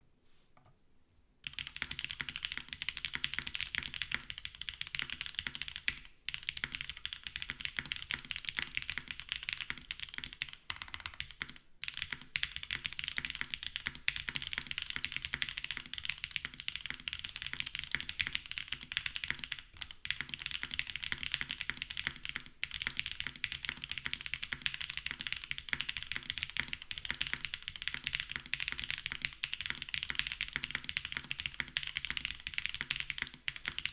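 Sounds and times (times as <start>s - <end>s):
typing on mechanical keyboard: 1.4s - 33.9s.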